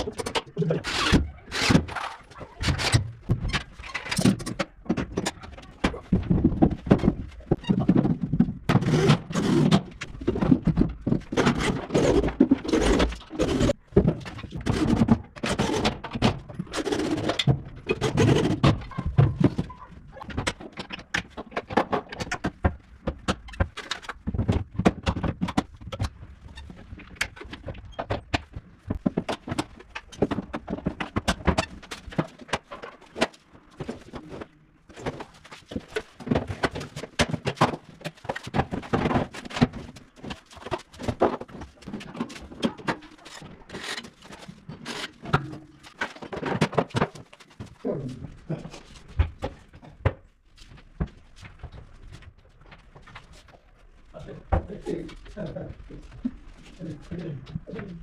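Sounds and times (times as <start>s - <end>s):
knocks clicks and clatter: 0.0s - 58.0s.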